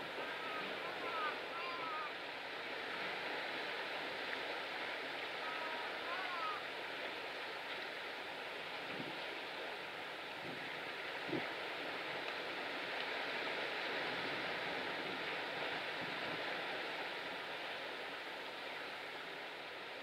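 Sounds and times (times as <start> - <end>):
sea waves: 0.0 - 20.0
wind: 0.0 - 20.0.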